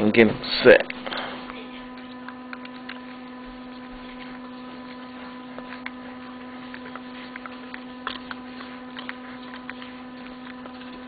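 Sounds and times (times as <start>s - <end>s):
hair clipper motor buzzing: 0.0s - 11.0s.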